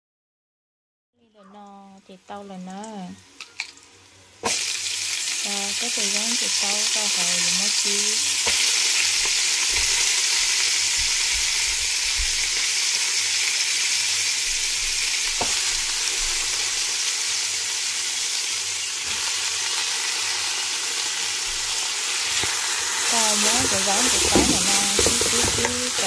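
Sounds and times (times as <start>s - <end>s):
garlic sizzling in hot oil: 1.6s - 26.0s.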